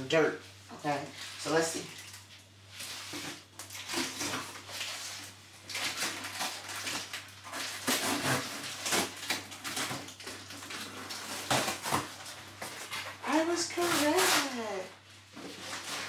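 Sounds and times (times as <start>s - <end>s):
plastic packaging crinkling: 1.1s - 16.0s.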